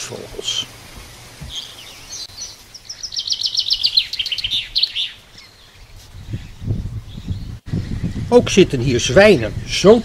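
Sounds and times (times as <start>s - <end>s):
songbird chirping: 0.0s - 8.2s.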